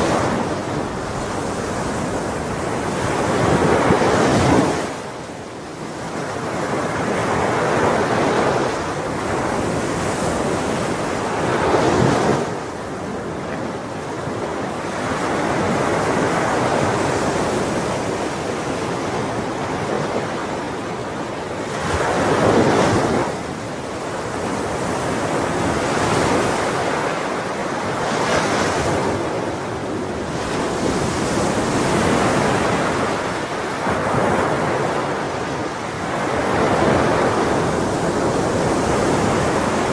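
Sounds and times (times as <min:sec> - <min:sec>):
ocean waves breaking on shore: 0:00.0 - 0:39.9
wind noise: 0:00.0 - 0:39.9.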